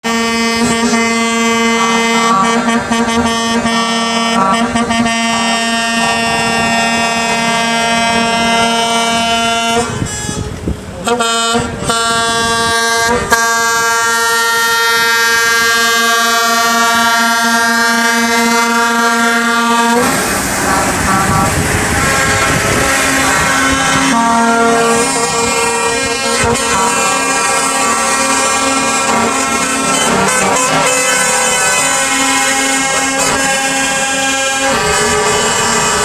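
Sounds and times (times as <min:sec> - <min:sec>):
truck air horn blaring: 0:00.0 - 0:36.0.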